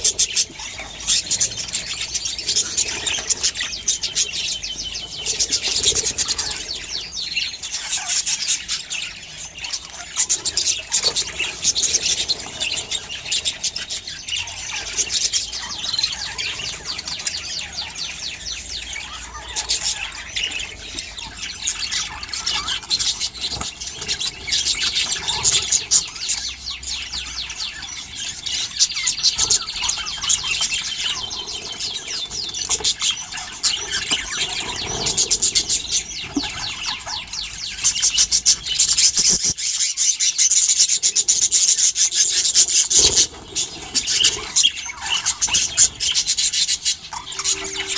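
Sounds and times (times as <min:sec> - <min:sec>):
flock of budgerigars chattering: 0:00.0 - 0:47.9.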